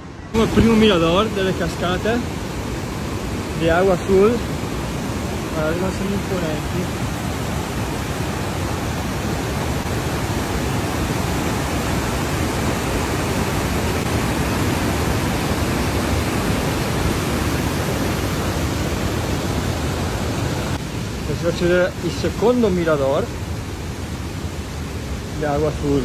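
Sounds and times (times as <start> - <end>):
river whitewater rushing: 0.0 - 26.0.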